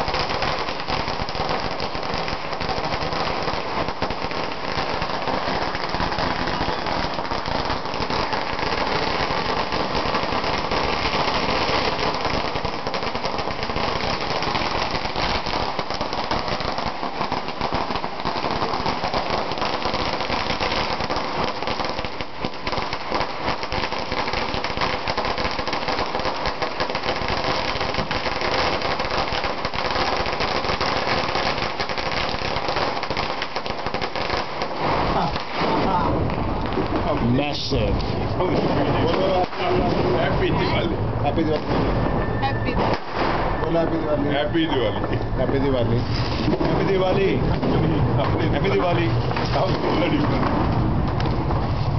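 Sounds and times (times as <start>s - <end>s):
firecracker string going off: 0.0s - 51.9s.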